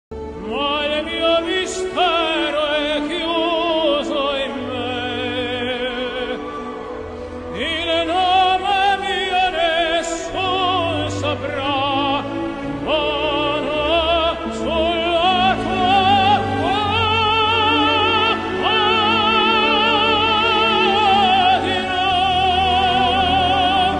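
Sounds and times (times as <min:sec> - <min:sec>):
operatic singing: 0:00.1 - 0:23.9.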